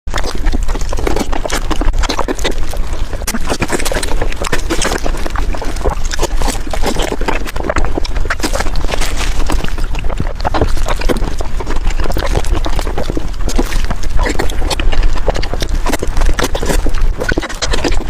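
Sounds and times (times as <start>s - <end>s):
wet chewing and lip-smacking: 0.1s - 18.0s.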